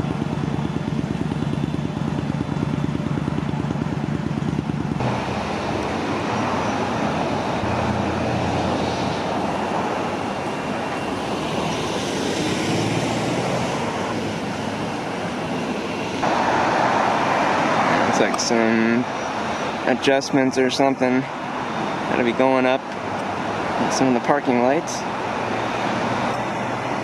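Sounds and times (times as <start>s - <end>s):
rush of passing cars: 0.0s - 27.0s
vehicle engine hum: 0.0s - 27.0s.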